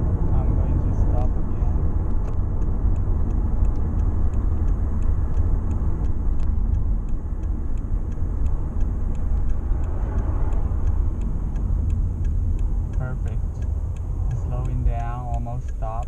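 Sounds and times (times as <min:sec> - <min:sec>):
tyre and drivetrain rumble: 0:00.0 - 0:16.0.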